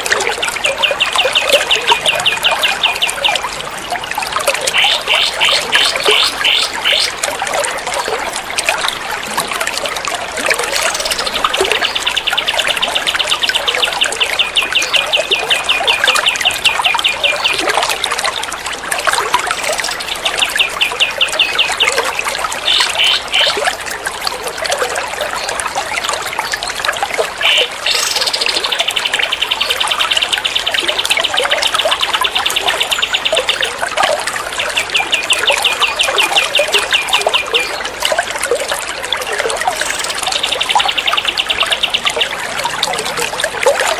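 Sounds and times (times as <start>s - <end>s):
running water trickling: 0.0s - 43.9s.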